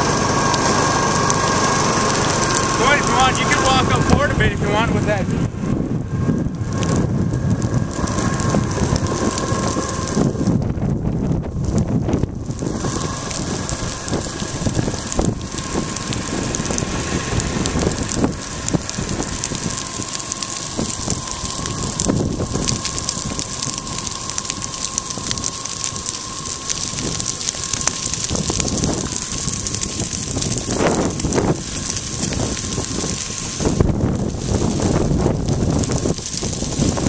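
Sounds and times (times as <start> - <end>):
grass fire crackling: 0.0 - 37.0
wind on microphone: 2.2 - 37.0.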